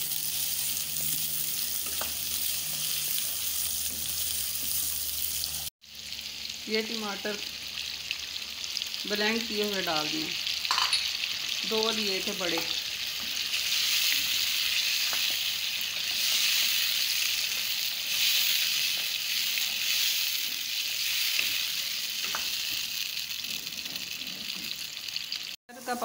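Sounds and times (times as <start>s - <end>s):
meat and tomato sizzling in oil: 0.0s - 26.0s.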